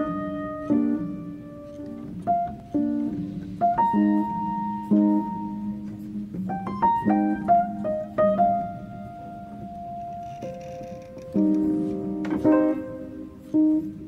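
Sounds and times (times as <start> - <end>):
slow gentle melody: 0.0 - 14.0.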